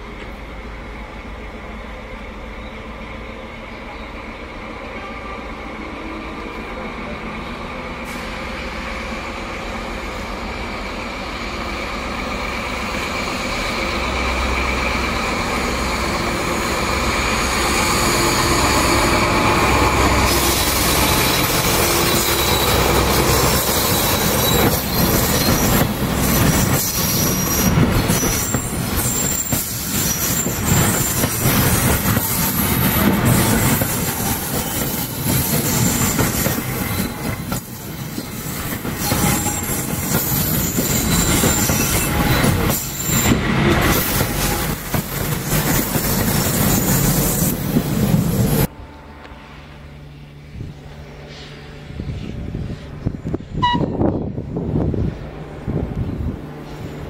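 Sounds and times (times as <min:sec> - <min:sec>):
diesel locomotive engine throb: 0:00.0 - 0:57.0
train wheel squeal: 0:02.4 - 0:06.5, 0:08.0 - 0:47.6, 0:51.1 - 0:54.1.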